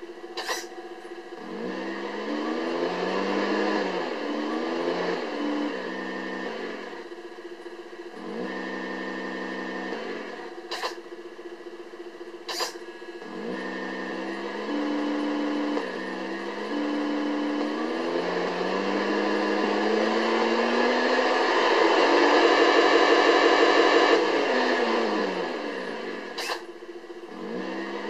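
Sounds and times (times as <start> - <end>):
simulated engine sound from speaker: 0.0 - 28.0.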